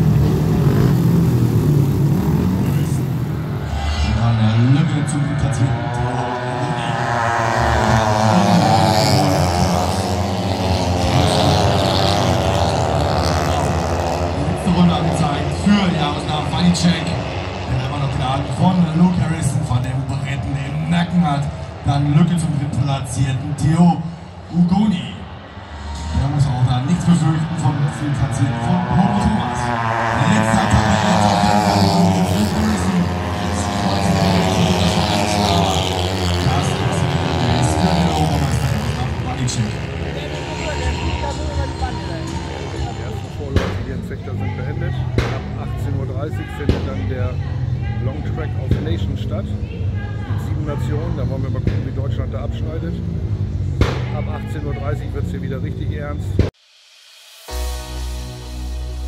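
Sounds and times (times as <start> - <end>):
racing motorcycle engines droning: 0.0 - 56.6.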